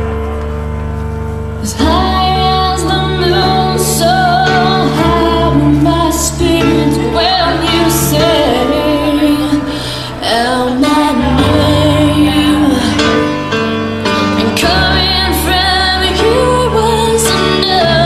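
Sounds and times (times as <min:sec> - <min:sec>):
woman singing a ballad: 0:01.6 - 0:13.5, 0:14.3 - 0:18.0.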